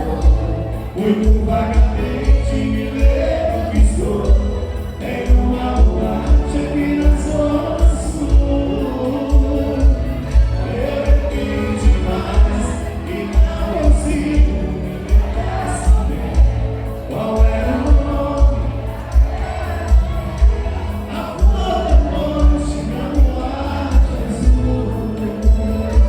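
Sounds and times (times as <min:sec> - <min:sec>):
live band music: 0:00.0 - 0:26.0
person singing: 0:00.0 - 0:26.0
strong bass drum beat: 0:00.0 - 0:26.0.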